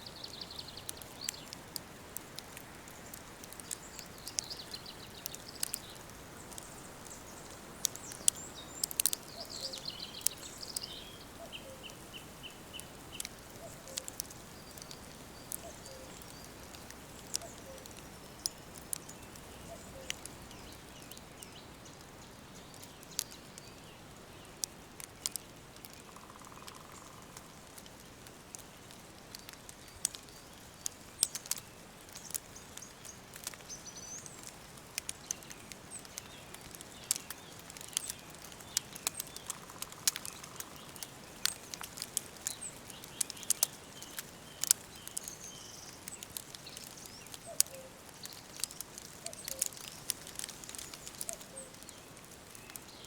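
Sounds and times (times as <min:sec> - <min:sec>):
background hiss: 0:00.0 - 0:53.0
birds singing and calling: 0:02.9 - 0:24.6, 0:29.4 - 0:34.5, 0:35.2 - 0:53.0.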